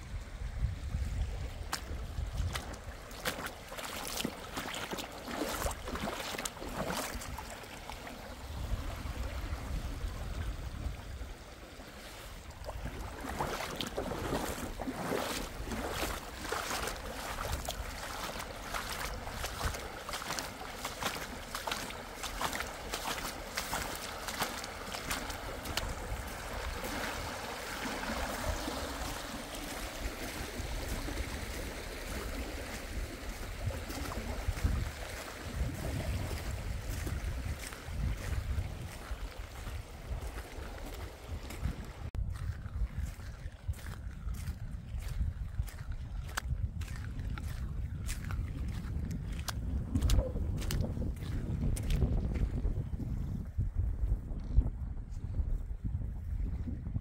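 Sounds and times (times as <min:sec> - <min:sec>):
stream water rushing and splashing: 0:00.0 - 0:52.4.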